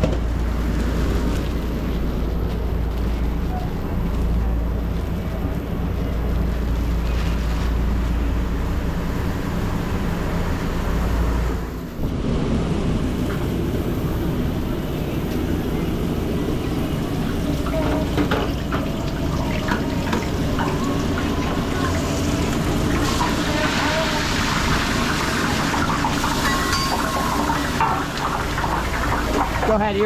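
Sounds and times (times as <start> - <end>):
kitchen equipment running: 0.0 - 12.1, 13.0 - 30.0.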